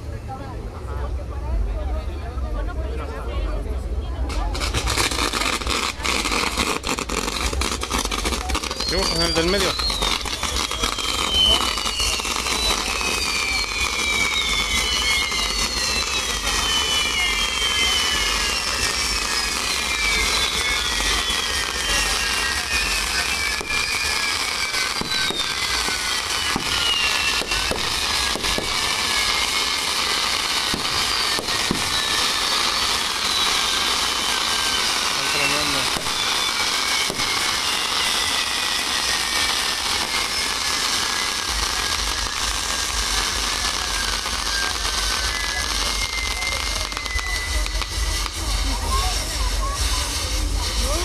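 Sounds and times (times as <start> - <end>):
fireworks whistles sliding down: 4.2 - 51.0
hiss of spark fountains: 4.2 - 51.0
sharp firework cracks: 4.2 - 51.0.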